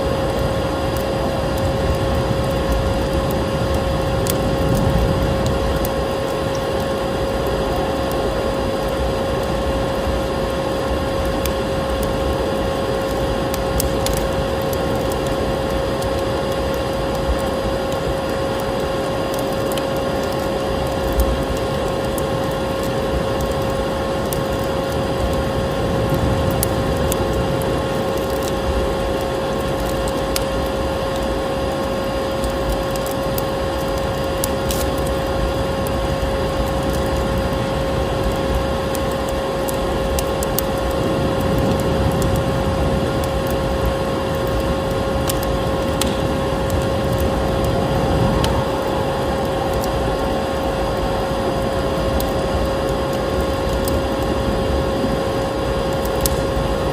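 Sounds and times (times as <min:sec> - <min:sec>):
vacuum cleaner motor whine: 0:00.0 - 0:56.9
wood fire crackling and popping: 0:00.0 - 0:56.9.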